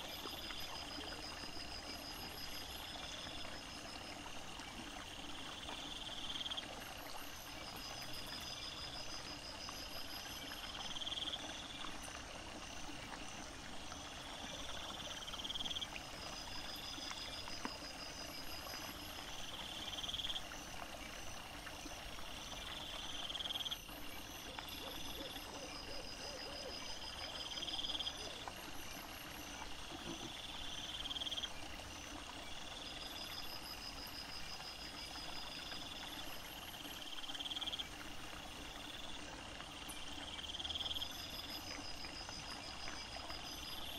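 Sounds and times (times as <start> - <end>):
insects buzzing in chorus: 0.0 - 43.9.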